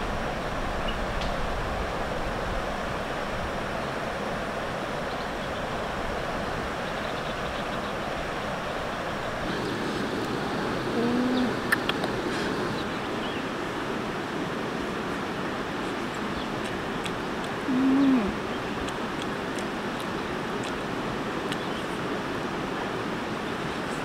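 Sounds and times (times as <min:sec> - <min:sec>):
river water over rocks: 0:00.0 - 0:24.0.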